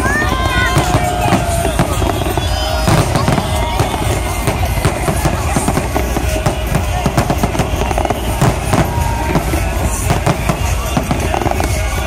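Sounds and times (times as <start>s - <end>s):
firework shells bursting and crackling: 0.0s - 12.0s.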